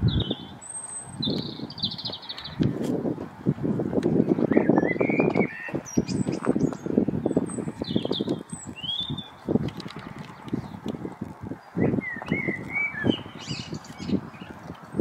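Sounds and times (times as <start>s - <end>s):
small birds chirping: 0.0s - 2.9s, 4.0s - 15.0s.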